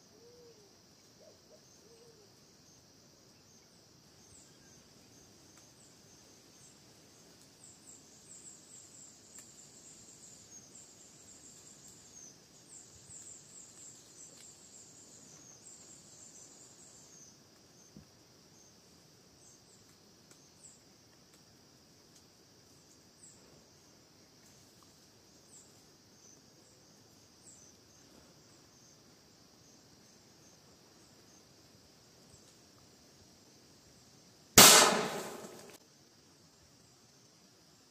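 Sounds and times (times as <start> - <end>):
high insect drone: 0.0 - 37.9.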